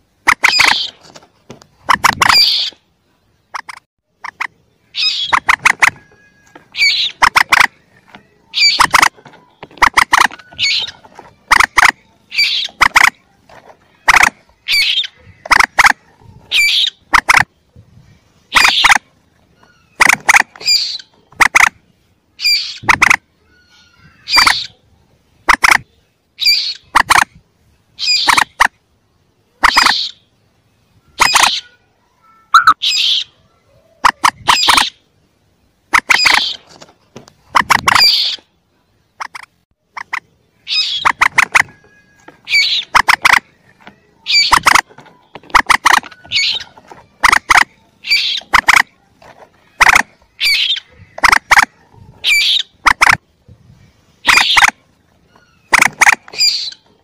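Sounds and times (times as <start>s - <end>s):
moorhen calls: 0.3s - 1.1s, 1.8s - 27.3s, 28.0s - 28.7s, 29.5s - 30.4s, 31.0s - 35.2s, 35.9s - 36.8s, 37.4s - 53.4s, 54.0s - 57.0s.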